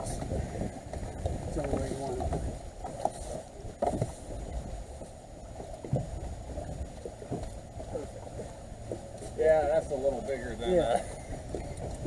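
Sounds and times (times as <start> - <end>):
wind on microphone: 0.0 - 9.7, 10.3 - 12.0
water lapping against boat hull: 0.0 - 12.0.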